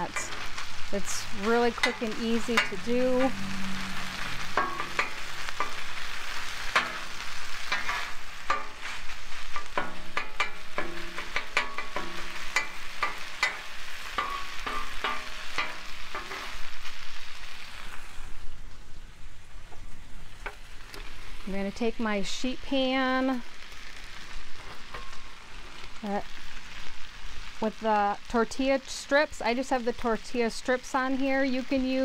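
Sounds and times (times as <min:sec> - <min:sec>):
meat sizzling on a griddle: 0:00.0 - 0:32.0.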